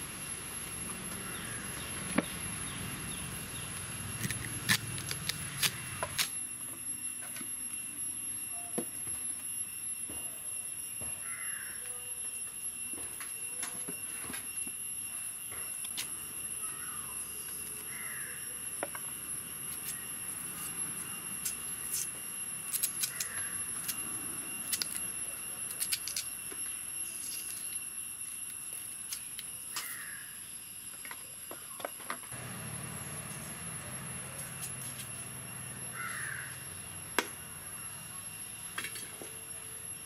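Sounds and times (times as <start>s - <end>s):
steady high tone: 0.0s - 40.0s.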